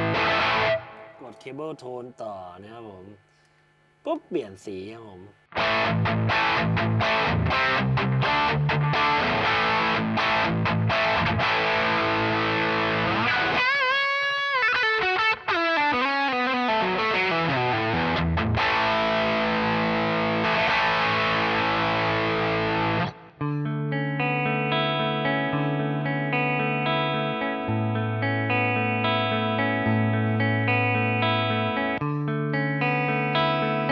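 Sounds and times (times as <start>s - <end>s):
distorted electric guitar: 0.0s - 33.9s.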